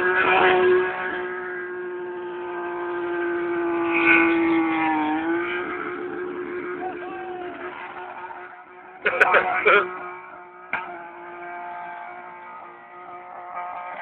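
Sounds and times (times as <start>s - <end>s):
engine running at high revs: 0.0s - 14.0s.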